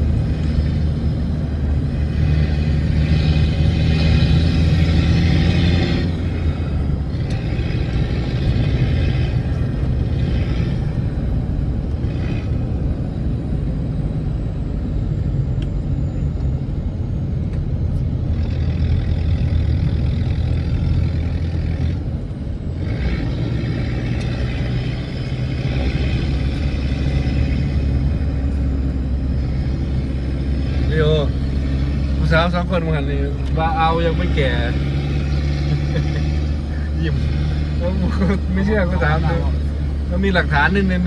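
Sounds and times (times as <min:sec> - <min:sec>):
vehicle engine and road rumble: 0:00.0 - 0:41.0.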